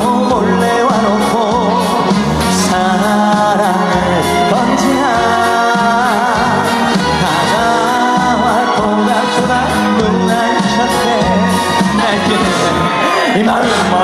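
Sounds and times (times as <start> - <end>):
backing music with bass beat: 0.0 - 14.0
person singing: 0.0 - 14.0.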